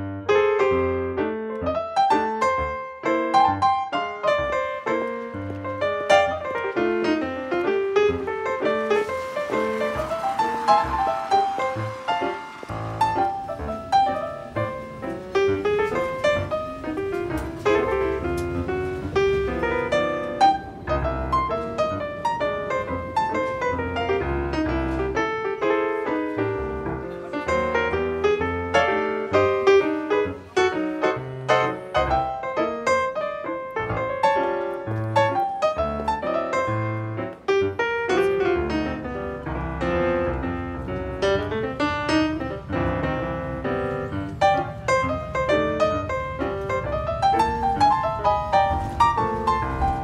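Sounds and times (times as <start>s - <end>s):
piano music: 0.0s - 50.0s.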